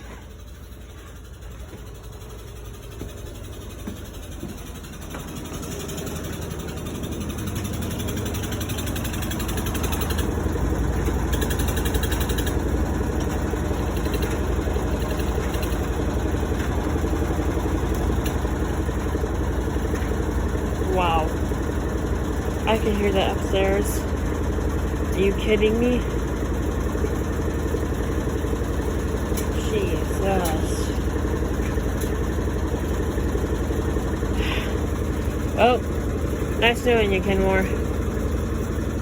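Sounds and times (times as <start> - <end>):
washing machine spin rattle: 0.0 - 39.0.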